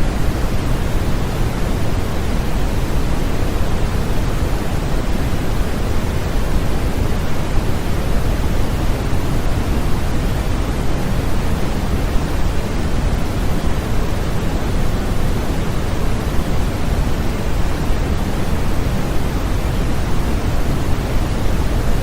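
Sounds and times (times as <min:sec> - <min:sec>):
steady pink noise hiss: 0:00.0 - 0:22.0.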